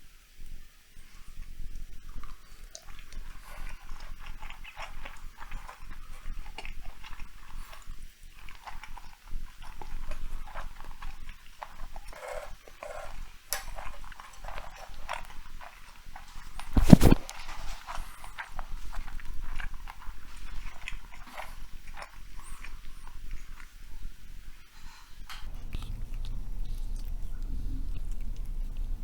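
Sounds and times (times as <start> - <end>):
cat chewing meat: 2.1 - 24.1, 25.4 - 29.0.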